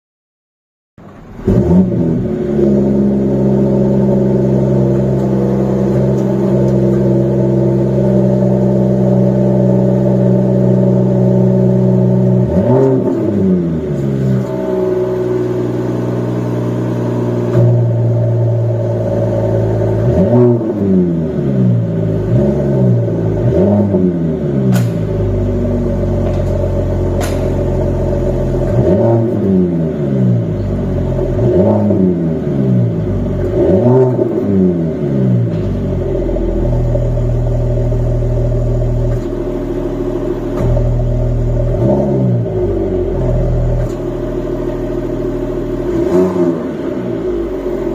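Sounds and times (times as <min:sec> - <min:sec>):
car engine idling and revving: 0:01.0 - 0:47.9.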